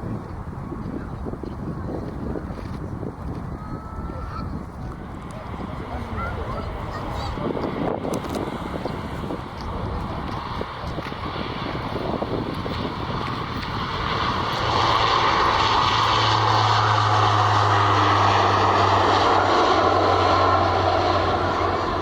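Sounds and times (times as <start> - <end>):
airplane engines: 0.0 - 22.0.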